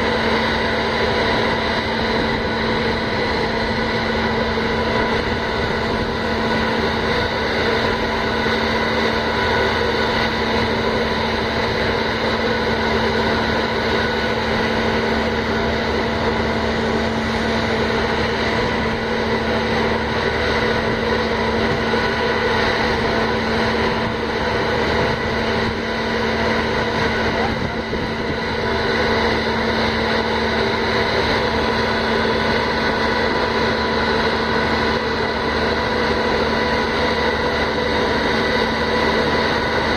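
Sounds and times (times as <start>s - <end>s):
ferry machinery hum: 0.0s - 39.9s.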